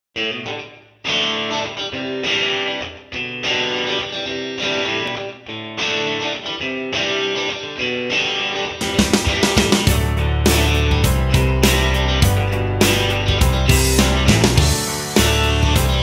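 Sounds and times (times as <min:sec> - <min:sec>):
guitar chords strummed: 0:00.2 - 0:16.0.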